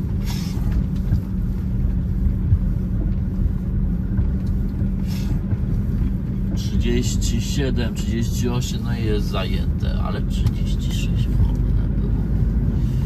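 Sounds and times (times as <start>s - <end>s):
constant low hum: 0.0s - 13.0s
truck diesel engine rumbling: 0.0s - 13.0s.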